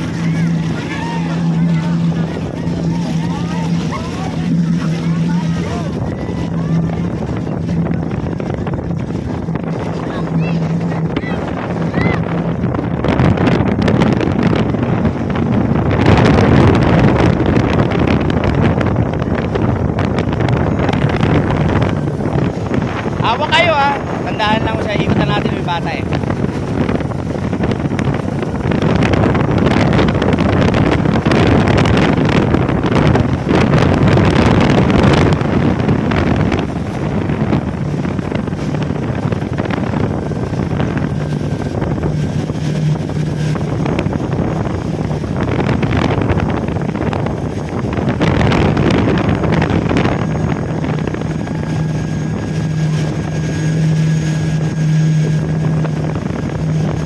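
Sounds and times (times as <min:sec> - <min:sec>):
motorboat engine drone: 0:00.0 - 0:57.0
water rushing past: 0:00.0 - 0:57.0
wind buffeting microphone: 0:00.0 - 0:57.0.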